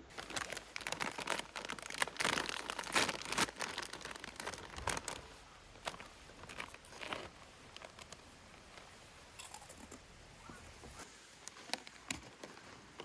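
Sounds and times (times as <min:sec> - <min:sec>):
crinkling and crackling: 0:00.0 - 0:13.0.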